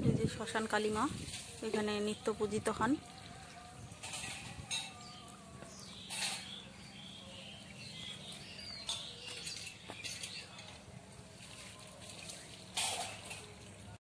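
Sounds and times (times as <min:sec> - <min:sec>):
faint birds chirping: 0:01.9 - 0:13.4.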